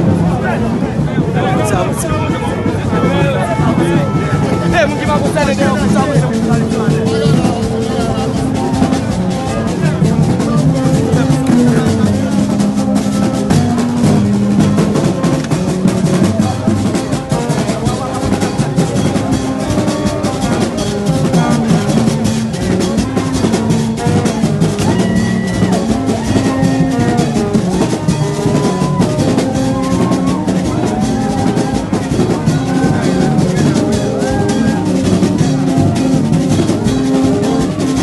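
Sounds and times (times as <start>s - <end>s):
fast drumming: 0.0s - 38.0s
melody over drums: 0.0s - 38.0s.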